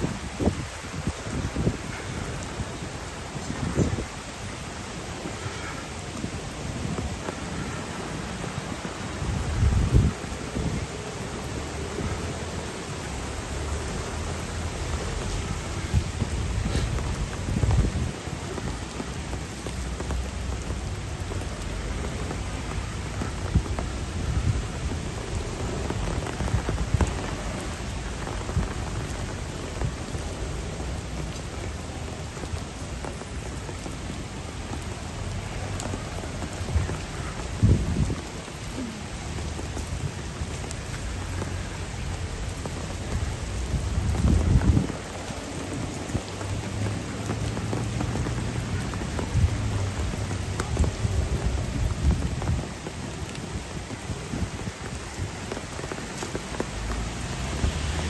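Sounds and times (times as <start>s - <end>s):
heavy rain hissing: 0.0s - 58.0s
raindrops hitting hard surfaces: 0.0s - 58.0s.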